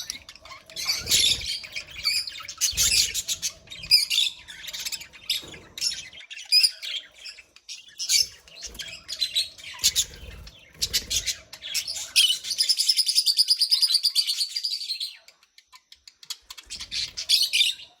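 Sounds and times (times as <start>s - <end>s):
bird warbling trill: 0.0s - 14.7s
budgerigars chirping: 0.0s - 18.0s.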